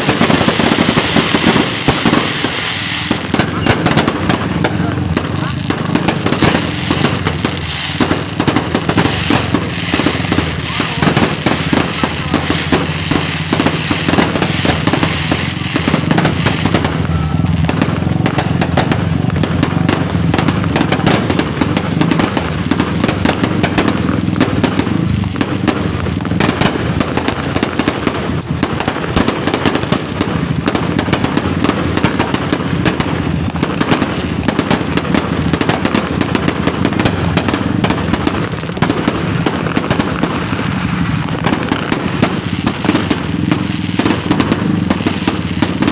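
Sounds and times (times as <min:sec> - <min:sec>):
fireworks popping and crackling: 0:00.0 - 0:45.9.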